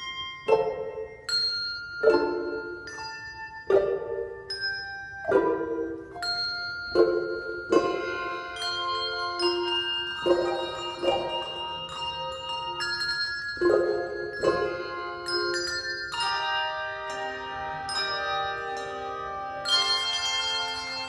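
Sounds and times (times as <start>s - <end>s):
handbells ringing chords: 0.0s - 21.0s.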